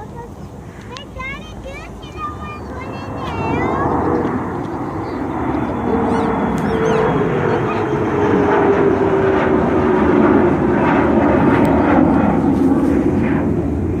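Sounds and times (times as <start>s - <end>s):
jet airliner engine whine: 0.0s - 14.0s.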